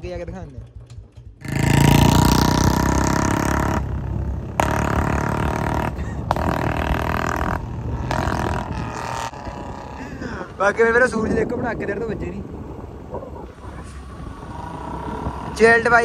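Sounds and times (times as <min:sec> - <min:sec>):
motorcycle engine revving: 0:00.5 - 0:16.0.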